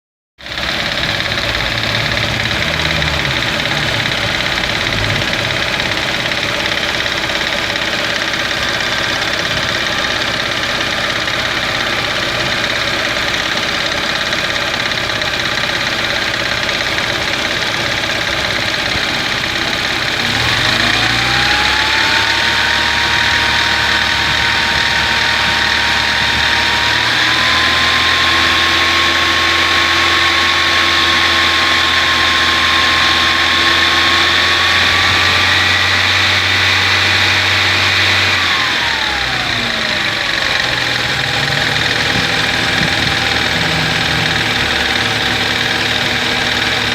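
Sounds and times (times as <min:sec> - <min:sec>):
car engine idling: 0:00.4 - 0:46.9
rising whine: 0:00.5 - 0:46.9.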